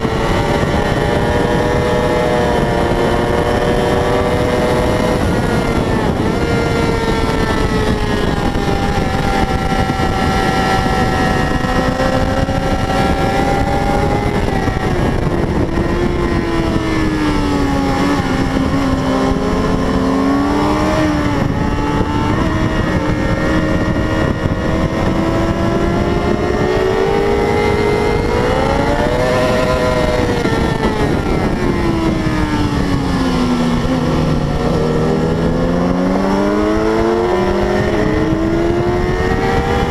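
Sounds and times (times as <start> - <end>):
racing motorcycle engine revving: 0.0 - 39.9
wind noise: 0.0 - 39.9.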